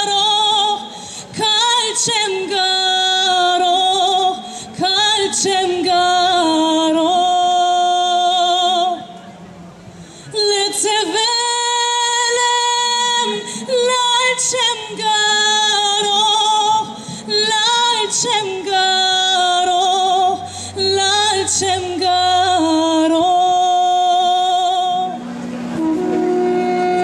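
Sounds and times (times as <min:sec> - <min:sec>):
woman singing slow melody: 0:00.0 - 0:09.2, 0:10.3 - 0:25.2.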